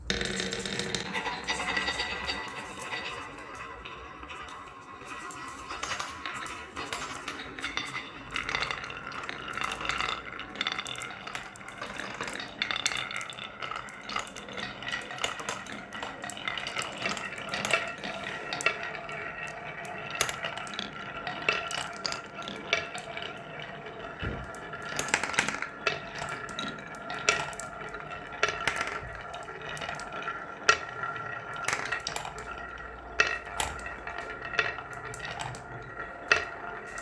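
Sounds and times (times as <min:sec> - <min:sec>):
marbles clattering down wooden run: 0:00.0 - 0:37.0.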